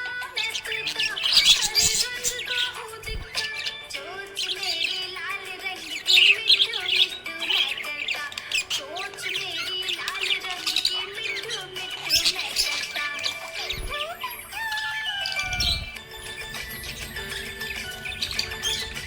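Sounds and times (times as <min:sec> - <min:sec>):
background music: 0:00.0 - 0:19.0
budgerigar chirping and warbling: 0:00.0 - 0:19.0.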